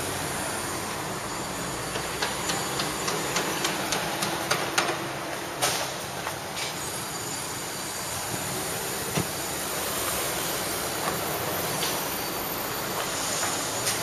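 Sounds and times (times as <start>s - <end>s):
street traffic rushing: 0.0s - 14.0s.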